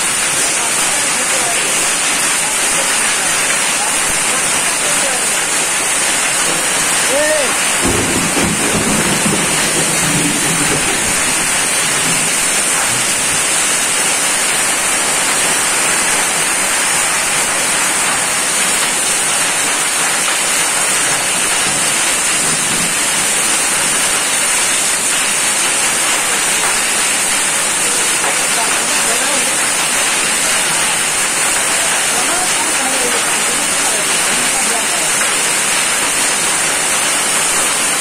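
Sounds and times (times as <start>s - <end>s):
heavy rain on waterlogged ground: 0.0s - 38.0s.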